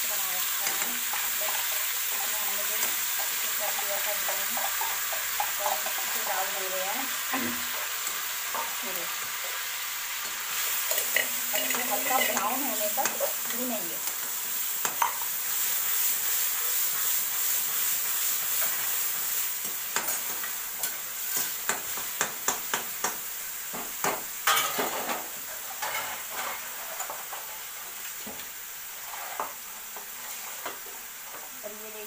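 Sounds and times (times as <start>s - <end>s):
paste sizzling in oil: 0.0s - 32.0s.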